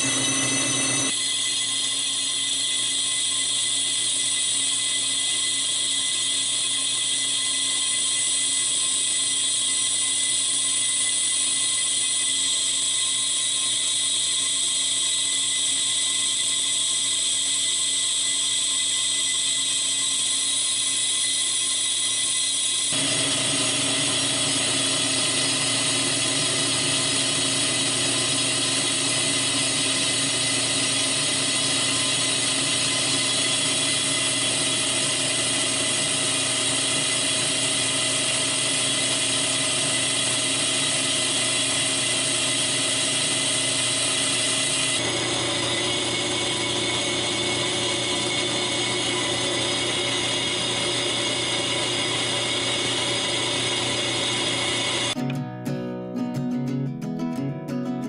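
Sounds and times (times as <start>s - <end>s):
metal lathe whining: 0.0s - 55.2s.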